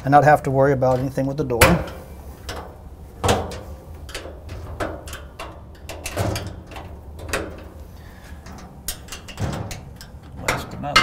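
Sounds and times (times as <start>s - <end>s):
sharp metallic clicks and knocks: 0.7s - 11.0s.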